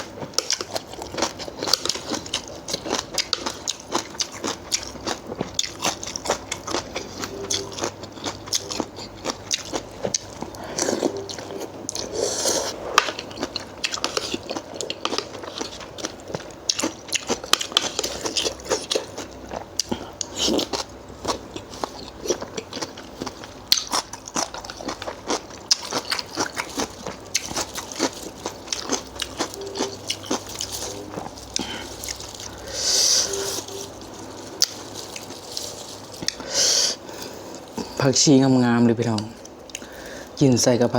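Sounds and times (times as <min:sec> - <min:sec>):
person chewing crunchy food: 0:00.0 - 0:40.4.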